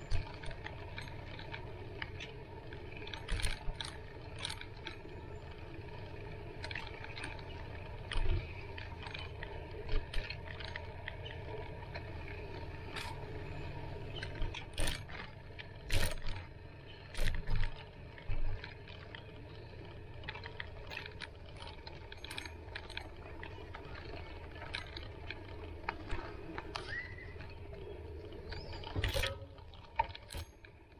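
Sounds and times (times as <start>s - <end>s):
bicycle clicking and rattling: 0.0s - 30.9s
bicycle tyre rumble on dirt: 0.0s - 30.9s.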